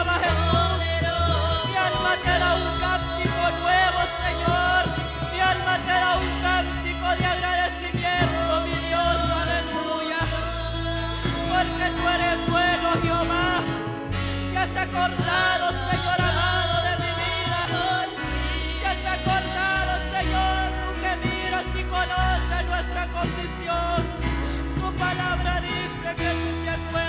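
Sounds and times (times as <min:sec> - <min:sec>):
gospel singing over a band: 0:00.0 - 0:27.0.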